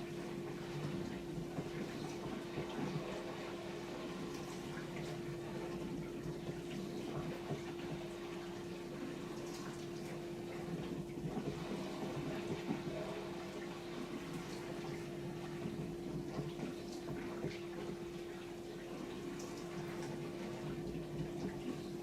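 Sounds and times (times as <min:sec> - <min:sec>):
dishwasher pump hum: 0:00.0 - 0:22.0.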